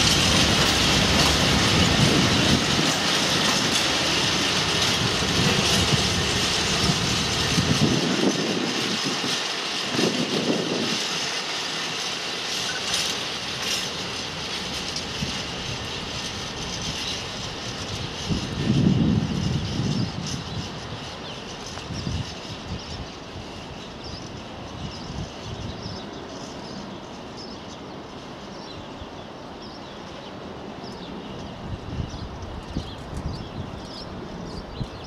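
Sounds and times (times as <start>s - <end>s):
freight wagons rolling on rails: 0.0s - 35.0s.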